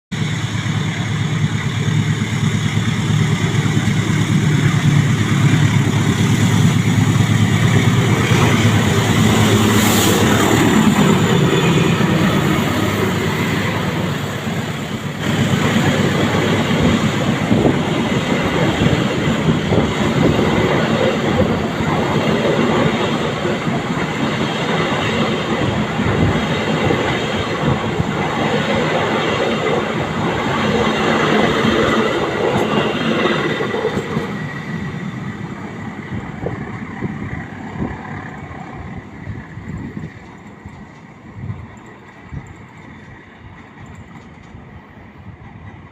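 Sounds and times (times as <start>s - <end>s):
train engine rumble: 0.1s - 45.9s.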